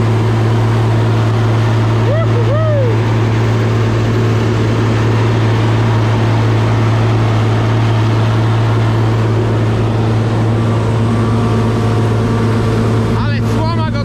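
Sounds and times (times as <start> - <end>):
diesel farm machinery running: 0.0 - 14.0.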